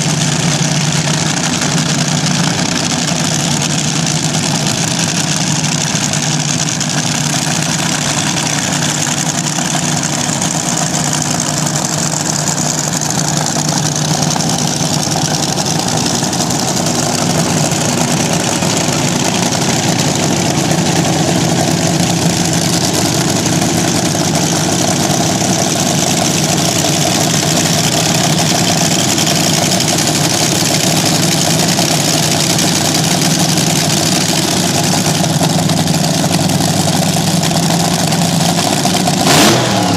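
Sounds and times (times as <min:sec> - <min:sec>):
dragster engine idling loudly: 0:00.0 - 0:39.9.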